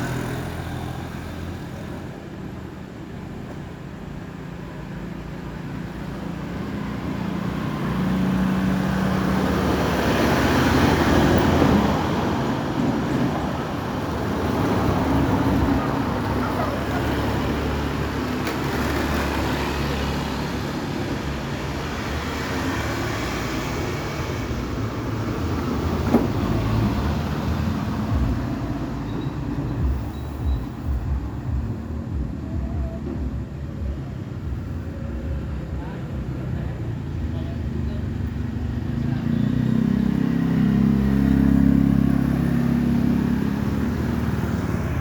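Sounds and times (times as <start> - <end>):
traffic noise: 0.0 - 45.0.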